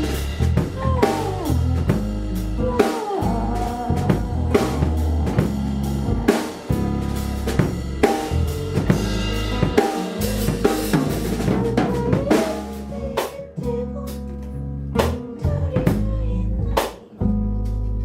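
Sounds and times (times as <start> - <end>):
drum kit playing: 0.0 - 18.0
sustained bass notes: 0.0 - 18.0.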